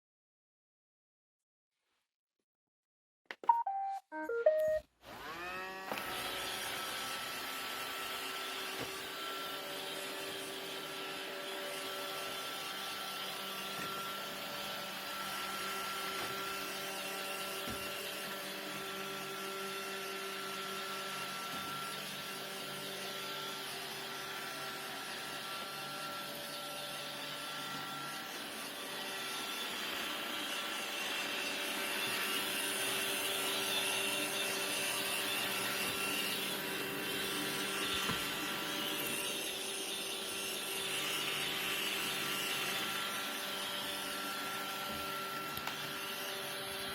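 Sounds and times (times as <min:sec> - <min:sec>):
robot vacuum running: 0:05.0 - 0:46.9.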